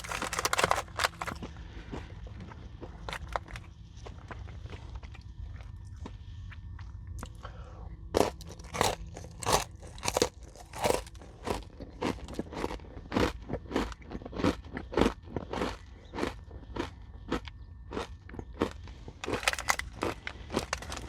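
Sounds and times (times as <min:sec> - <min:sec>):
crunchy chewing of granola bar: 0:00.0 - 0:07.5, 0:08.1 - 0:21.0.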